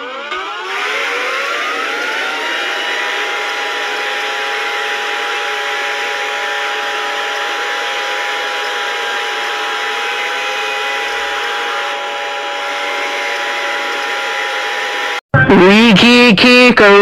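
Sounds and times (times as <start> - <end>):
civil defense siren winding up: 0.0 - 15.2.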